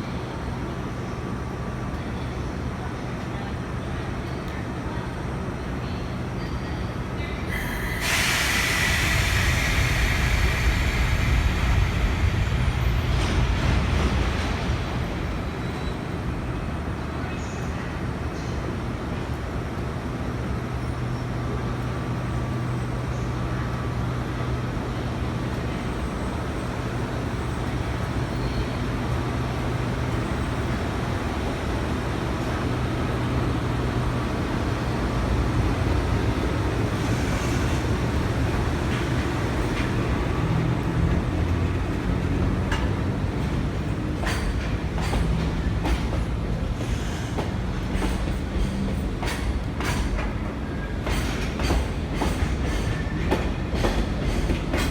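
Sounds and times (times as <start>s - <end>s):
freight train rolling: 0.0s - 54.9s.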